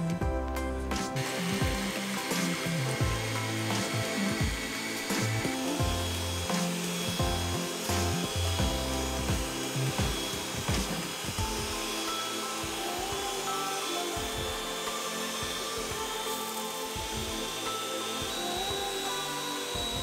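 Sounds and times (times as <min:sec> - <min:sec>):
background music: 0:00.0 - 0:20.0
electric hand mixer whisking: 0:00.9 - 0:20.0.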